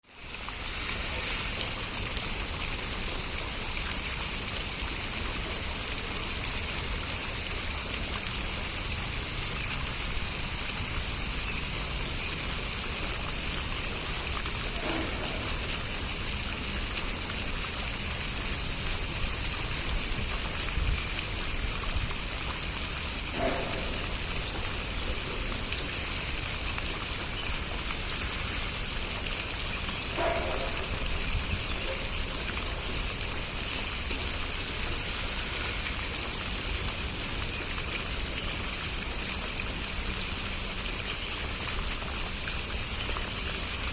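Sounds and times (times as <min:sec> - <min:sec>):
running water hiss: 0:00.0 - 0:43.9.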